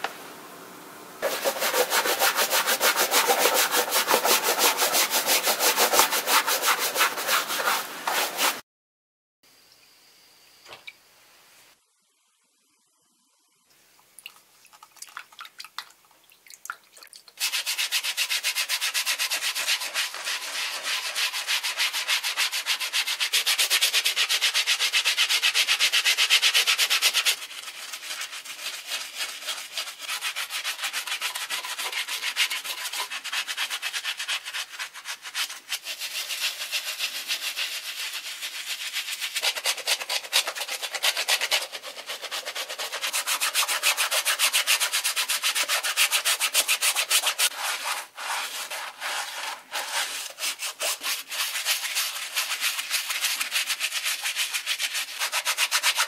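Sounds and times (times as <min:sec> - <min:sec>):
brush scrubbing wet sneaker: 0:01.2 - 0:08.6, 0:17.4 - 0:56.0.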